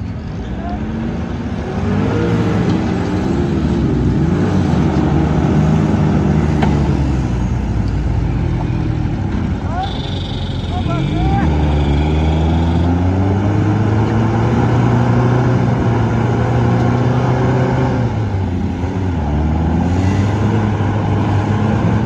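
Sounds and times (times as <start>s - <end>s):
jeep engine straining at high revs: 0.8s - 7.4s, 9.5s - 22.0s.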